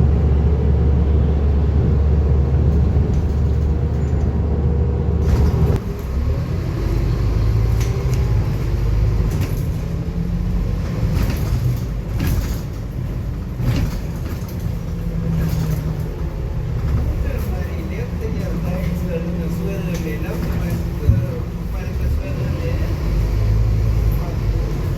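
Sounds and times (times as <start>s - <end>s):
bus diesel engine drone: 0.0s - 24.9s.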